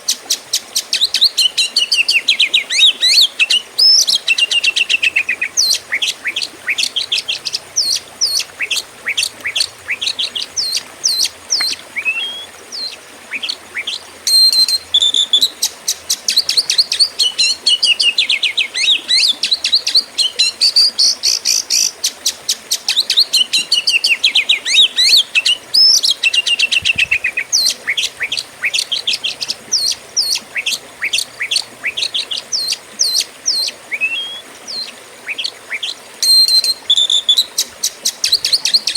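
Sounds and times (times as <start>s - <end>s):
bird singing whistled notes: 0.5s - 21.9s, 22.9s - 38.9s.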